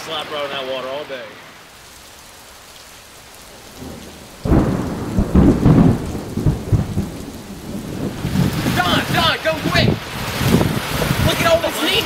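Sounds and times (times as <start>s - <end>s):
runoff water splashing: 0.0s - 12.0s.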